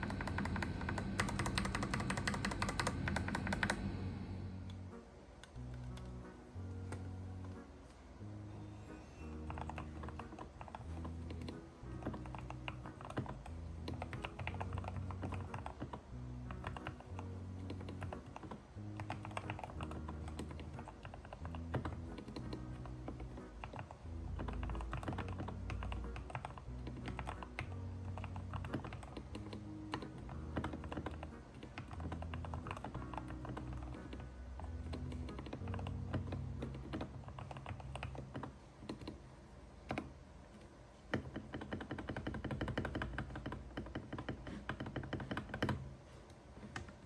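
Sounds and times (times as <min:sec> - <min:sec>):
mechanical keyboard typing: 0:00.0 - 0:04.0, 0:09.4 - 0:39.2, 0:39.8 - 0:45.8
background music with bass: 0:00.0 - 0:38.4.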